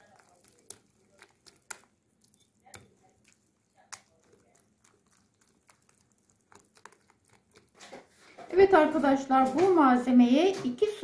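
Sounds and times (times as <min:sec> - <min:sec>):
whisk tapping bowl: 0:00.0 - 0:08.8
whisk beating batter: 0:00.0 - 0:09.2.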